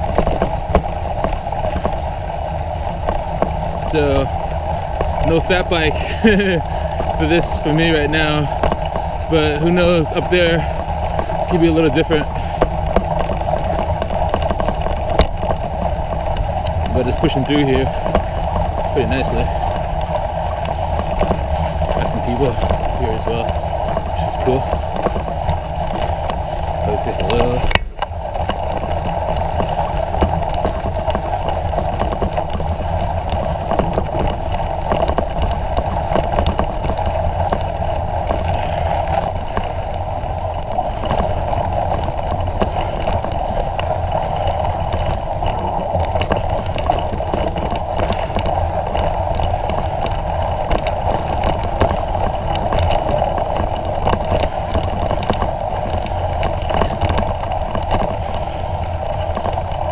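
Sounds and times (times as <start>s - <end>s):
bicycle tyres rolling through snow: 0.0s - 59.9s
snow crackling: 0.0s - 59.9s
wind on microphone: 0.0s - 59.9s.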